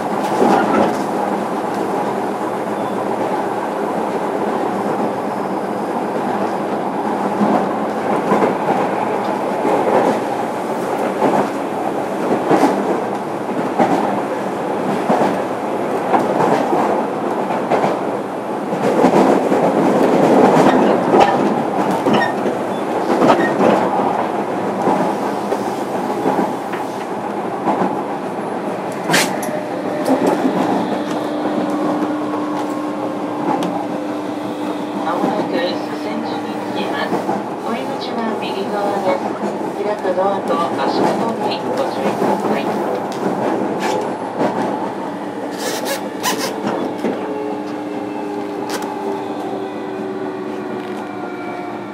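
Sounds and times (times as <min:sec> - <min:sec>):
train running rumble: 0:00.0 - 0:51.9.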